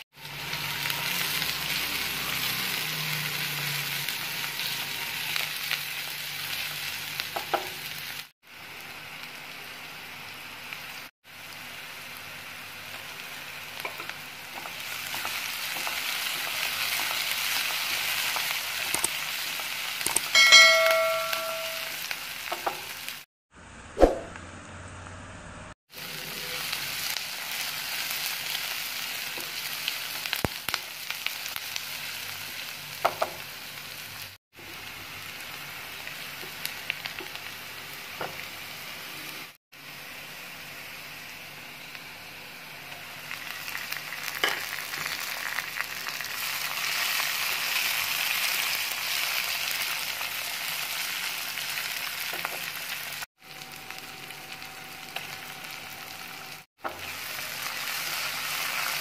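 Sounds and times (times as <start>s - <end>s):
onions sizzling in oil: 0.0s - 23.3s, 25.9s - 59.0s.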